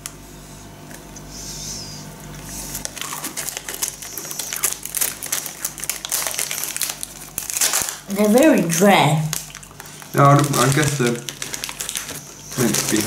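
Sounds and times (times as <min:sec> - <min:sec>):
biscuit crunching and chewing: 0:02.2 - 0:13.0.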